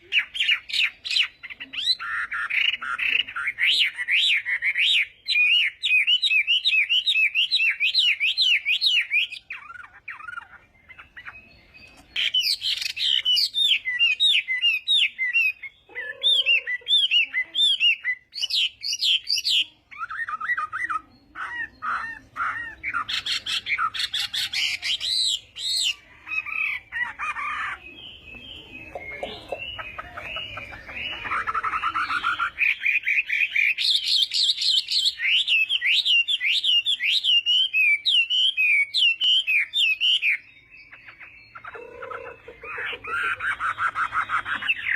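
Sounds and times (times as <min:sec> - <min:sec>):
bird singing whistled notes: 0:03.4 - 0:44.9.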